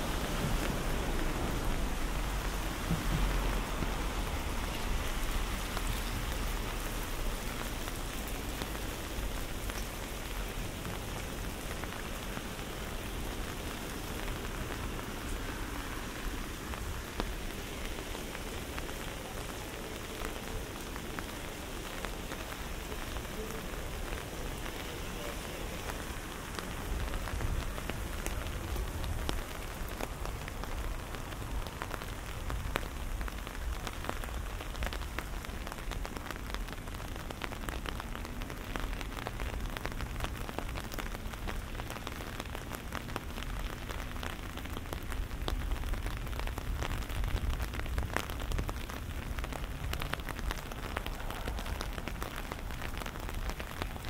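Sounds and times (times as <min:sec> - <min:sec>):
rain falling: 0:00.0 - 0:54.0
raindrops ticking: 0:00.0 - 0:54.0.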